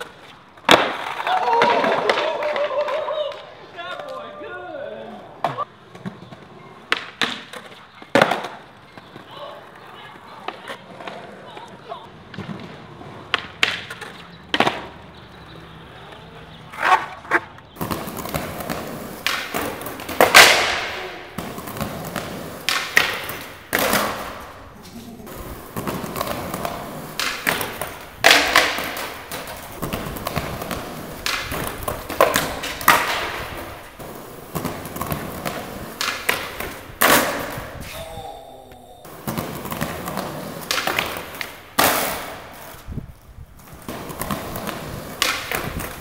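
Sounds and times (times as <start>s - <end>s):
skateboard pops and slaps: 0.0s - 4.2s, 5.4s - 15.0s, 16.1s - 37.8s, 39.1s - 43.0s, 43.6s - 46.0s
skateboard wheels rolling: 0.0s - 46.0s.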